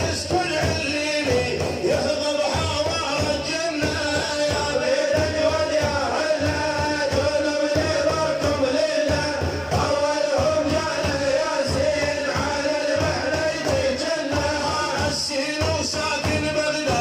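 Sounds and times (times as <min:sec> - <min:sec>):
man chanting a devotional song: 0:00.0 - 0:17.0
steady drum beats: 0:00.0 - 0:17.0.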